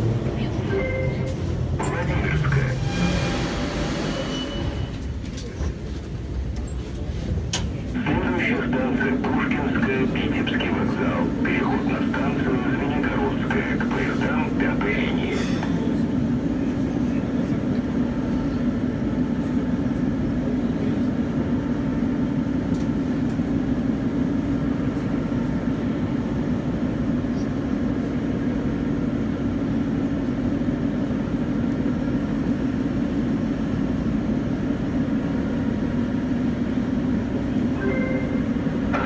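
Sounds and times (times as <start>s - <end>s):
metro car hum and rumble: 0.0s - 39.0s.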